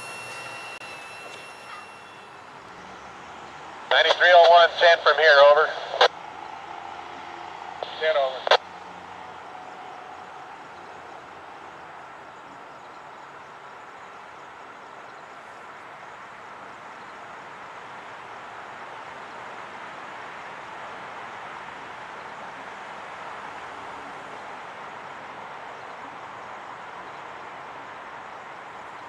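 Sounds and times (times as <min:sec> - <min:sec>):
distant freight train rolling: 0:00.0 - 0:29.0.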